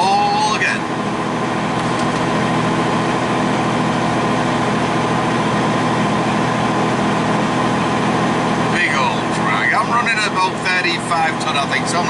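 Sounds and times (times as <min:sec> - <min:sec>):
engine whine: 0:00.0 - 0:12.0
truck diesel engine droning: 0:00.0 - 0:12.0.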